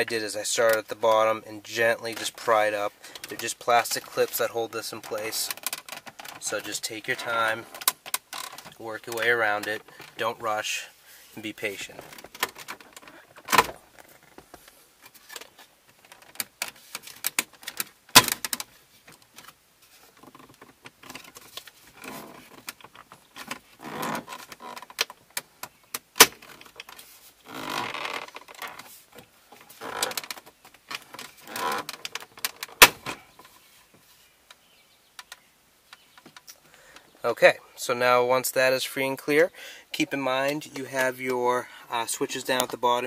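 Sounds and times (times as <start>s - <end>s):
plastic scraping and creaking: 0.0s - 10.5s, 11.6s - 37.1s.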